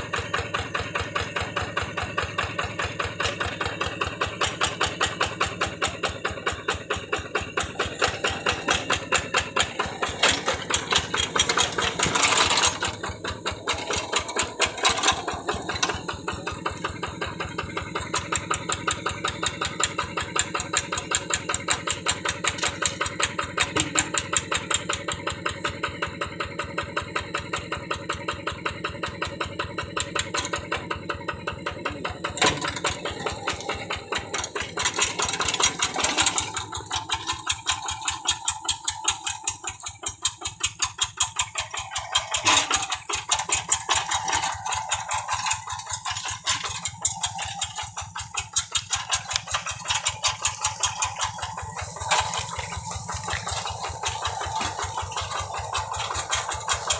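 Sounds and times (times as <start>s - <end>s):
diesel tractor engine chugging: 0.0s - 56.9s.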